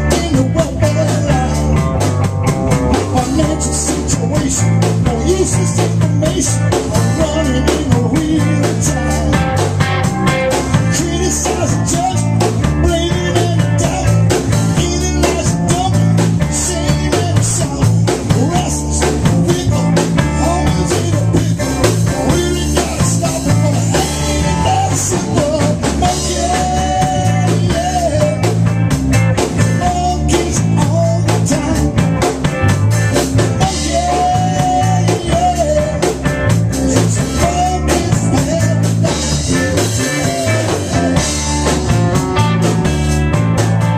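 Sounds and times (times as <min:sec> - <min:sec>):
bass line: 0:00.0 - 0:43.9
drum kit: 0:00.0 - 0:43.9
guitar melody: 0:00.0 - 0:43.9.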